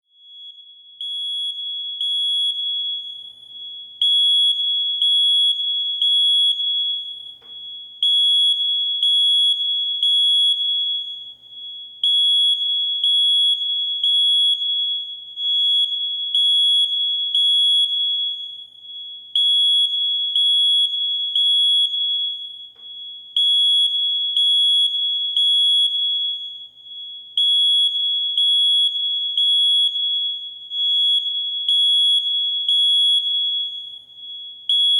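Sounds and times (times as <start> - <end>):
smoke alarm beeping: 0.0 - 34.9.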